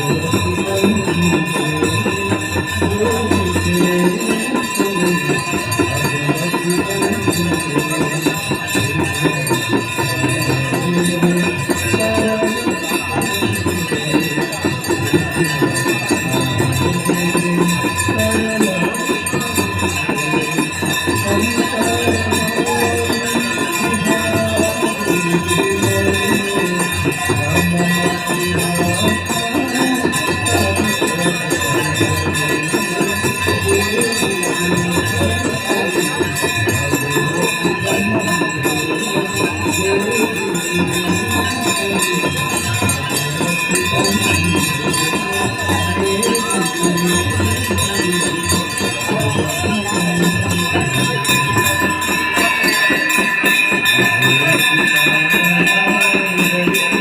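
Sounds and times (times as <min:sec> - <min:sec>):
jingling percussion: 0:00.0 - 0:57.0
ringing bells: 0:00.0 - 0:57.0.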